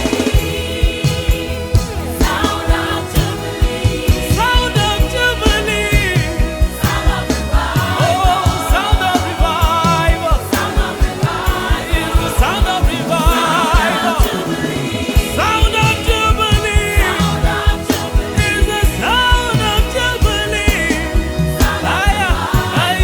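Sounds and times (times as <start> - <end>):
band with steady drum beat: 0.0 - 23.0
person singing gospel: 0.0 - 23.0.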